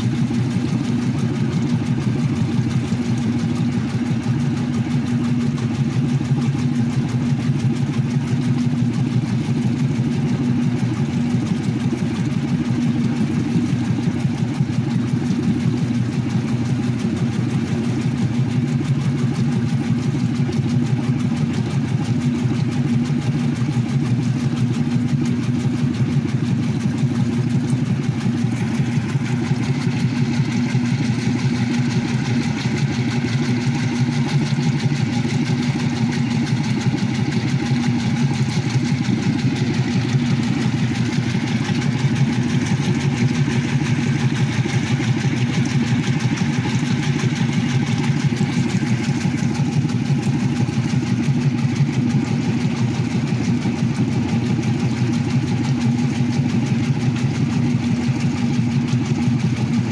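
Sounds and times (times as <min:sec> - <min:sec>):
washing machine motor hum: 0:00.0 - 0:59.9
water churning and sloshing: 0:00.0 - 0:59.9.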